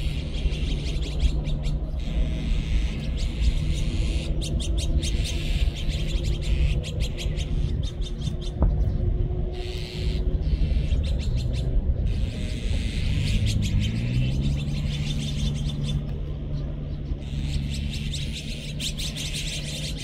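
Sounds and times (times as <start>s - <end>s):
magpies chattering: 0.0s - 8.8s, 9.5s - 20.0s
low rumble: 0.0s - 20.0s.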